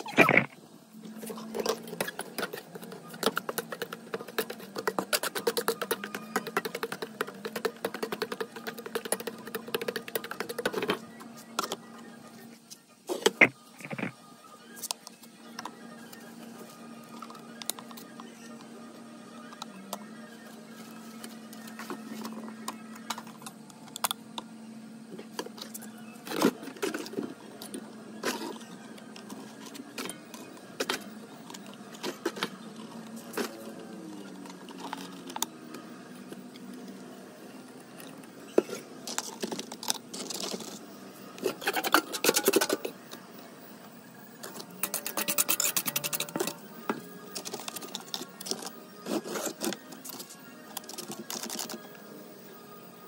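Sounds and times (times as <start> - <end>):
soft background music: 1.0 - 53.0.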